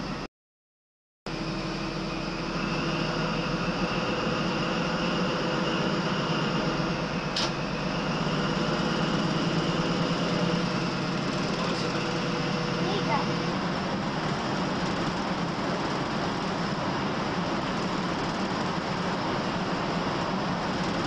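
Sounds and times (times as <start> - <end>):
train cab drone with whine: 0.0 - 0.3, 1.3 - 21.0.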